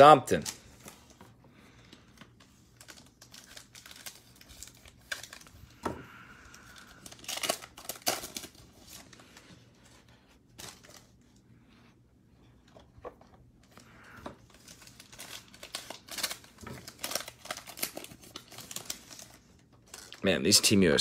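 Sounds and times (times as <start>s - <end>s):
foil wrappers crinkling and tearing: 0.0s - 11.3s, 13.6s - 21.0s.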